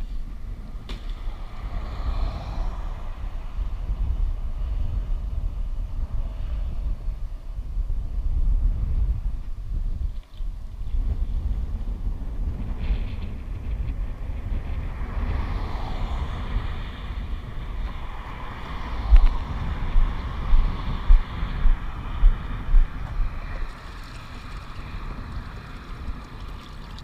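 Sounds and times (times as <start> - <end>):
highway traffic hum: 0.0 - 27.0
wind buffeting microphone: 0.0 - 27.0.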